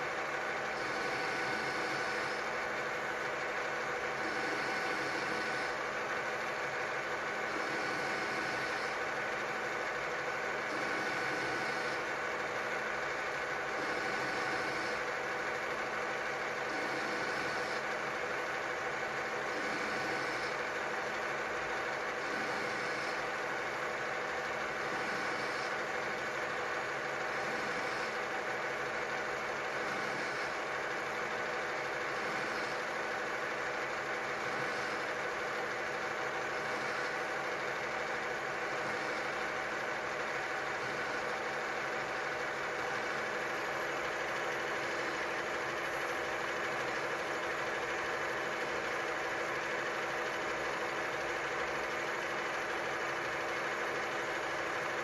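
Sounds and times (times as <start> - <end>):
lathe spindle humming: 0.0 - 55.0.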